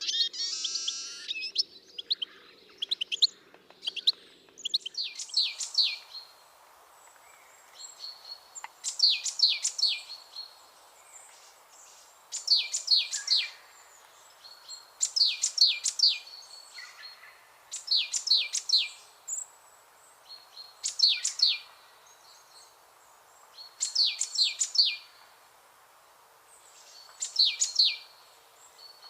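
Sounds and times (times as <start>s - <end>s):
small birds chirping and singing: 0.0s - 25.3s, 26.4s - 29.0s.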